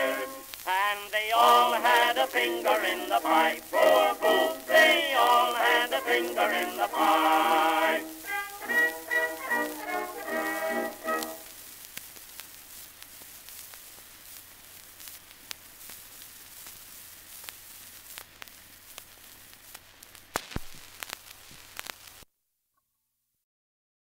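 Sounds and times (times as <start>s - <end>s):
record crackles and clicks: 0.0s - 23.0s
record surface hiss: 0.0s - 23.4s.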